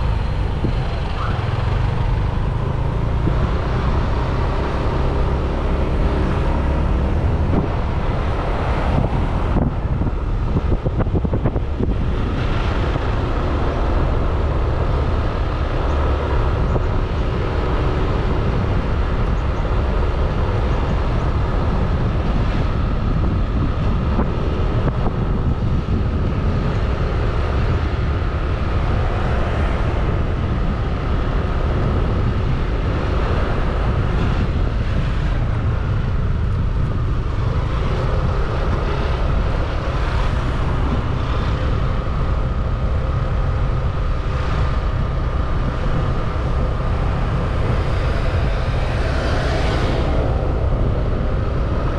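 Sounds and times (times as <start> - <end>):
road noise: 0.0 - 51.9
wind rumble on microphone: 0.0 - 51.9.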